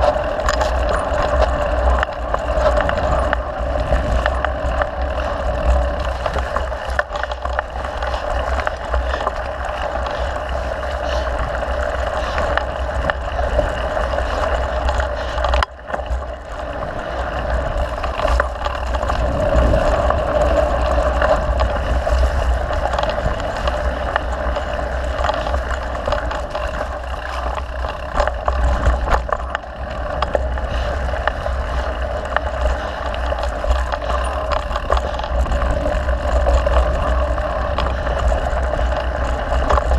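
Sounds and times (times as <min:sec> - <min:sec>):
bike rattles and knocks: 0:00.0 - 0:39.9
bike tyre noise: 0:00.0 - 0:39.9
wind rush on microphone: 0:00.0 - 0:39.9.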